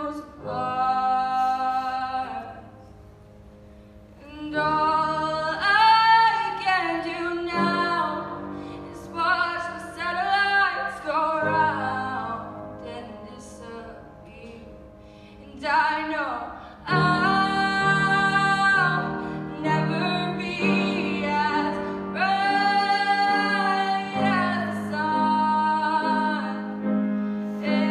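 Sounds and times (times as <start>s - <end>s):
woman singing: 0.0s - 2.8s, 4.2s - 26.9s, 27.6s - 27.9s
piano chords: 0.0s - 27.9s.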